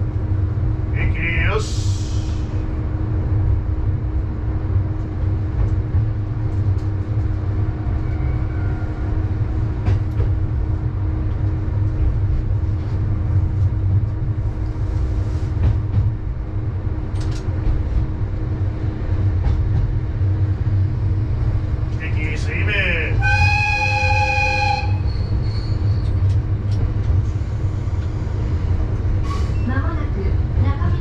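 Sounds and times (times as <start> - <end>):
railcar engine and wheels rumbling: 0.0 - 31.0.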